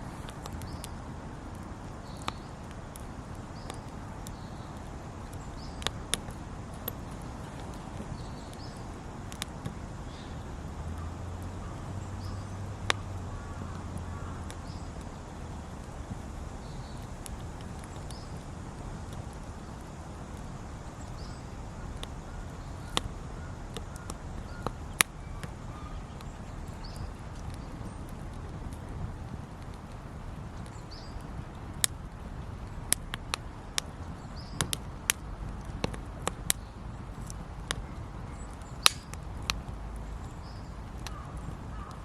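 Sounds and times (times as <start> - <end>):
burning wood crackling pops: 0.0 - 42.0
campfire hissing: 0.0 - 42.0.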